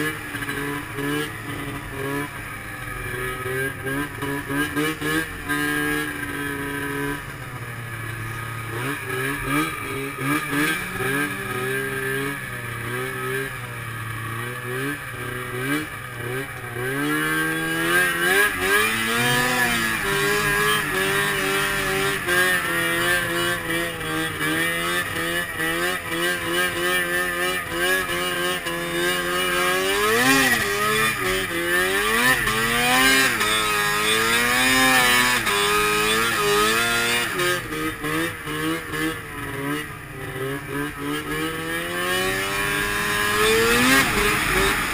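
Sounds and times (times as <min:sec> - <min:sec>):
snowmobile engine revving: 0:00.0 - 0:44.9.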